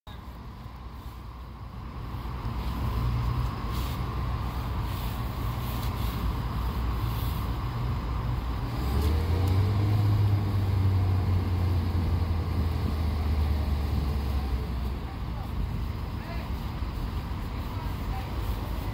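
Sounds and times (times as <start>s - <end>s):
heavy machinery engines running: 0.1s - 18.9s.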